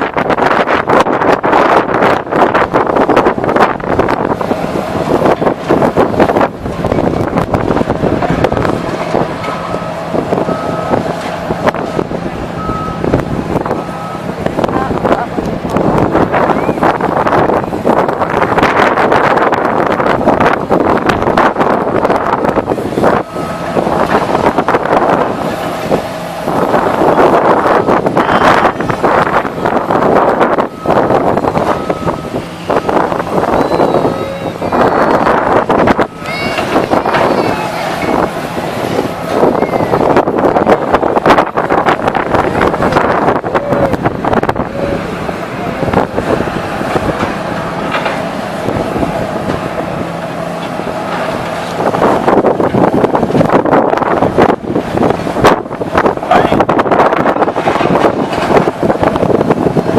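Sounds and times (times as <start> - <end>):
demolition machinery engine drone: 0.0 - 59.9
wind buffeting microphone: 0.0 - 59.9.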